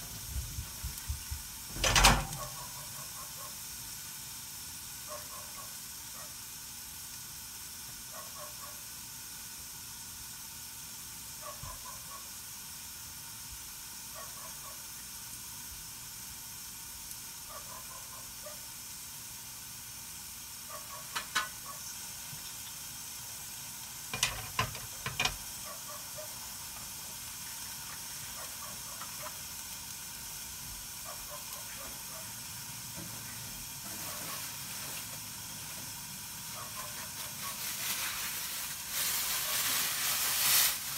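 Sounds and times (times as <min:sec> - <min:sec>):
faint sizzling: 0:00.0 - 0:40.9
steam hissing: 0:00.0 - 0:40.9.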